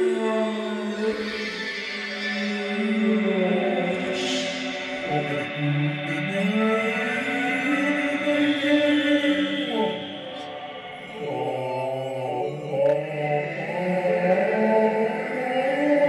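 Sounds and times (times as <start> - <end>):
choir-like vocal chanting: 0.0 - 16.0.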